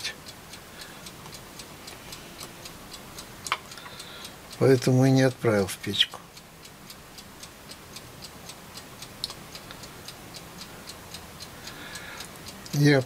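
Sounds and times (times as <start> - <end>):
faint regular ticking: 0.0 - 13.0
low steady hiss: 0.0 - 13.0.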